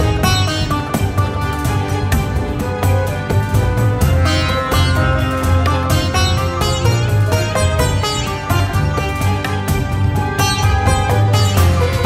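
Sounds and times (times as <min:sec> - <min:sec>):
quick plucked-string notes: 0:00.0 - 0:12.0
steady low bass: 0:00.0 - 0:12.0.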